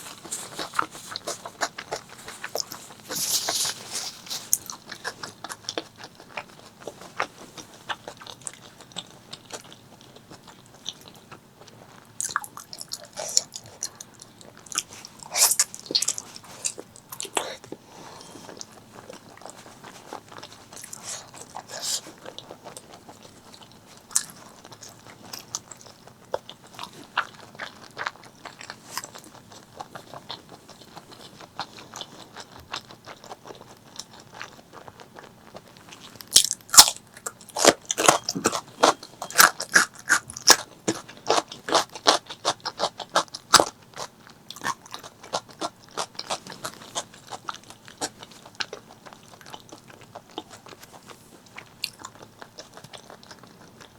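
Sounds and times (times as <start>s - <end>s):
chewing with wet mouth clicks: 0.0s - 53.9s.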